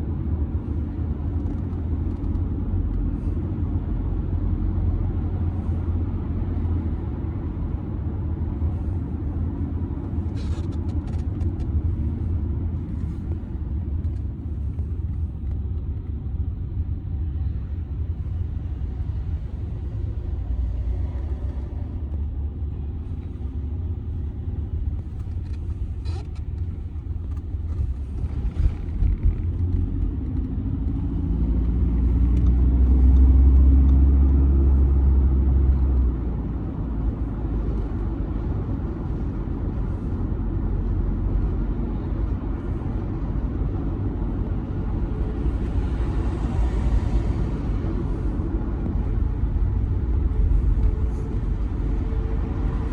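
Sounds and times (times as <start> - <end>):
diesel engine: 0.0 - 52.9
road and tyre rumble: 0.0 - 52.9.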